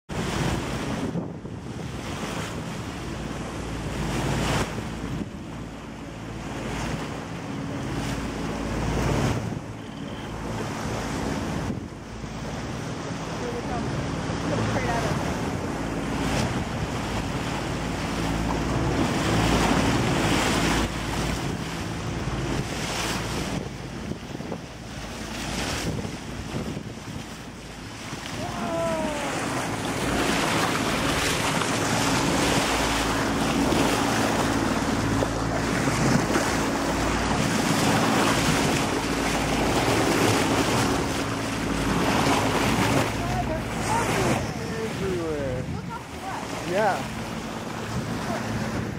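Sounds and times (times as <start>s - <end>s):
water rushing along a hull: 0.0s - 48.9s
wind buffeting microphone: 0.1s - 48.9s.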